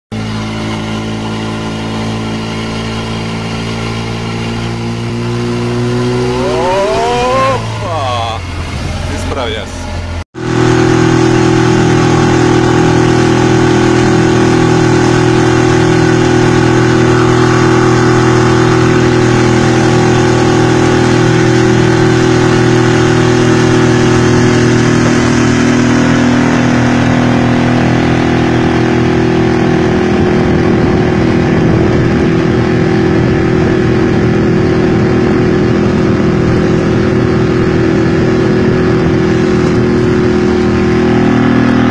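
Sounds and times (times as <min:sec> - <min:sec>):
motorboat engine running: 0:00.1 - 0:41.9
water rushing along hull: 0:00.1 - 0:41.9.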